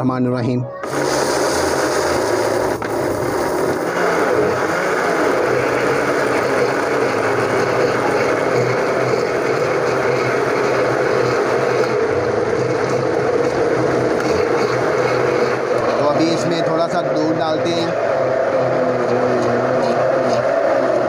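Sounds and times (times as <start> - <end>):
electric blender running: 0.8 - 21.0.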